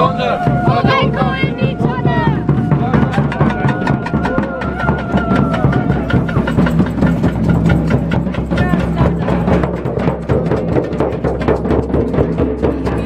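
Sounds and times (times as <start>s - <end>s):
drums beating quick rhythm: 0.0s - 13.0s.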